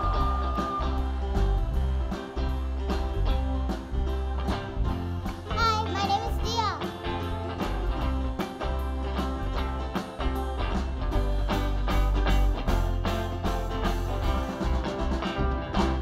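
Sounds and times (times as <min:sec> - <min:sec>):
electric bass guitar: 0:00.0 - 0:16.0
electric keyboard: 0:00.0 - 0:16.0
steady beat: 0:00.0 - 0:16.0
strummed ukuleles: 0:00.0 - 0:16.0.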